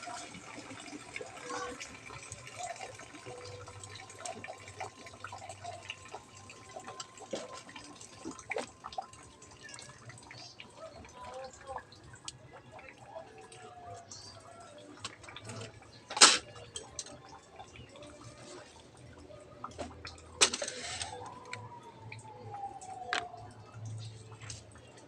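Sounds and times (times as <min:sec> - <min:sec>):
water dripping and trickling: 0:00.0 - 0:25.0.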